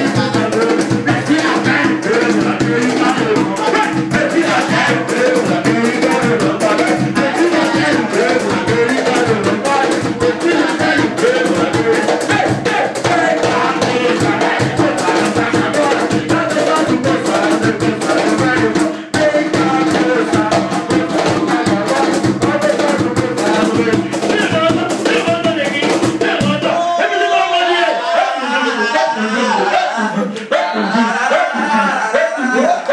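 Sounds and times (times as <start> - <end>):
band playing lively music: 0.0 - 26.8
drums: 0.0 - 26.8.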